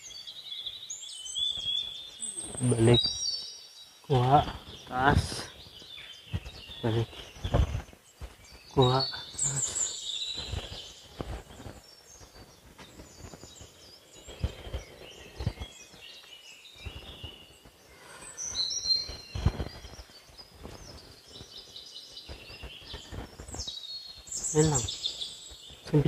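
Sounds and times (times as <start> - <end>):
birds chirping and whistling: 0.0 - 26.0.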